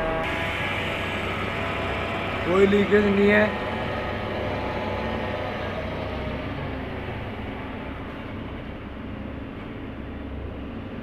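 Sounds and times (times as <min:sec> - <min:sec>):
hydraulic pump hum: 0:00.0 - 0:11.0.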